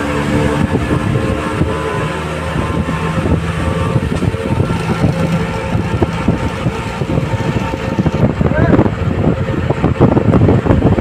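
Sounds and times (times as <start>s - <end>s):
vehicle driving through tunnel: 0.0s - 11.0s.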